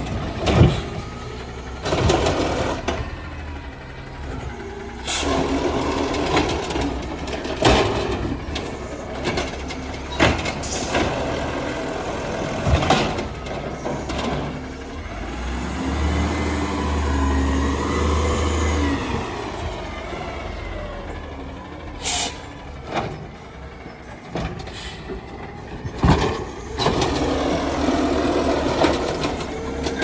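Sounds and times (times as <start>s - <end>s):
garbage truck engine and hydraulics: 0.0s - 30.0s.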